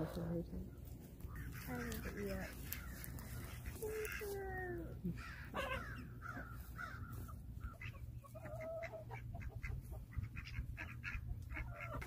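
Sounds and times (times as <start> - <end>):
hens squawking and clucking: 0.0 - 12.0.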